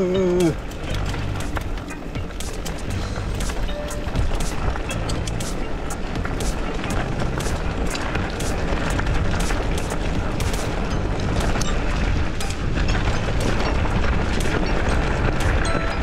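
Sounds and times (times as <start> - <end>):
background music with steady beat: 0.0 - 16.0
wind buffeting microphone: 0.0 - 16.0.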